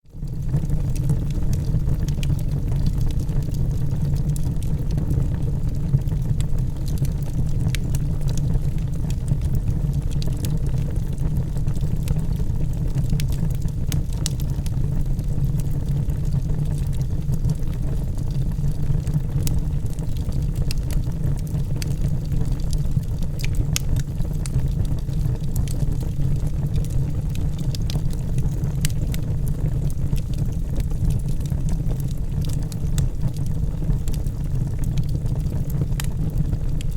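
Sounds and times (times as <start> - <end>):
fire low rumble: 0.0 - 36.9
fire crackling and popping: 0.1 - 36.9.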